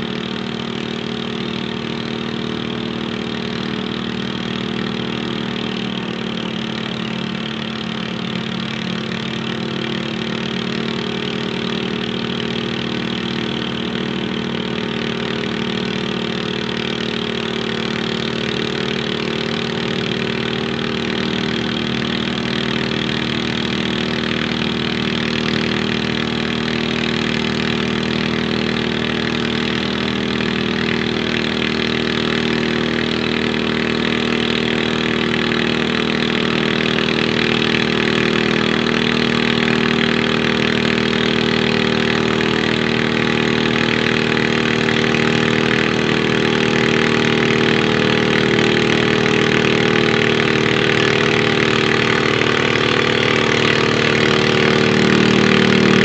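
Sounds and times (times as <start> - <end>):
garden tractor engine under load: 0.0 - 56.0.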